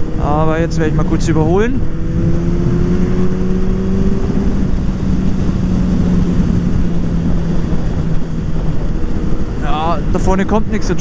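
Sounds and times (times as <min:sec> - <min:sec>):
motorcycle engine at high revs: 0:00.0 - 0:11.0
wind on microphone: 0:00.0 - 0:11.0.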